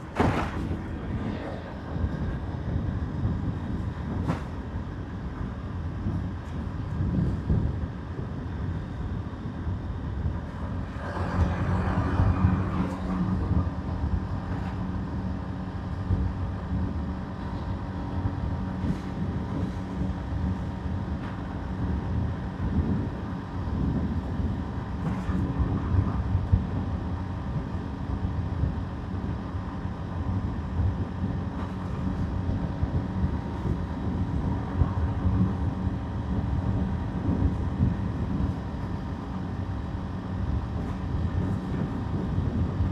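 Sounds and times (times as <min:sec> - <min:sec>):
road noise: 0:00.0 - 0:06.9, 0:07.9 - 0:42.9
wind rumble on microphone: 0:00.0 - 0:42.9.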